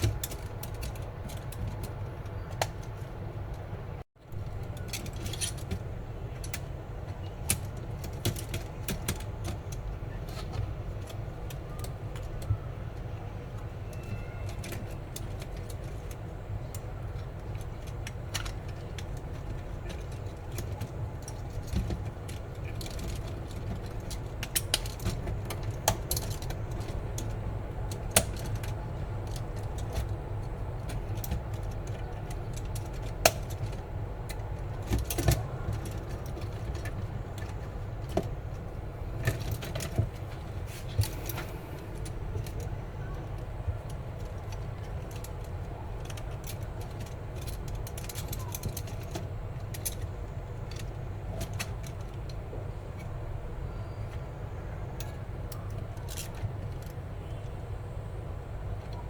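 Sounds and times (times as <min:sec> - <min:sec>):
plastic parts clicking and clacking: 0:00.0 - 0:53.2, 0:55.0 - 0:57.5.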